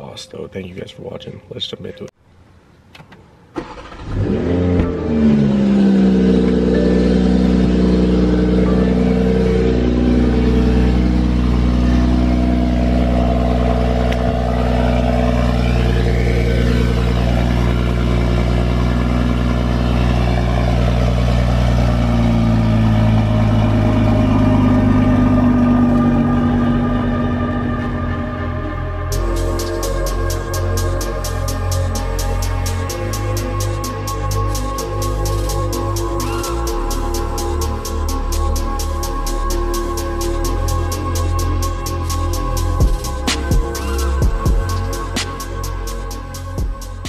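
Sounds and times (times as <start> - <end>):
car engine revving and idling: 3.6 - 47.0.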